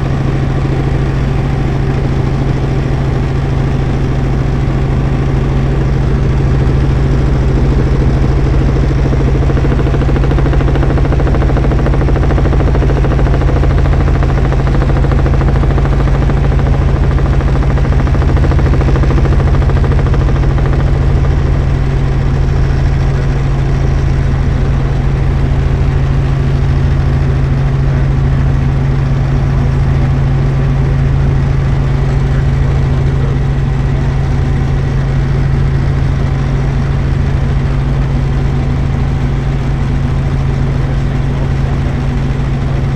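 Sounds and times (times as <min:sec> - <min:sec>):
helicopter engine and rotors: 0:00.0 - 0:42.9.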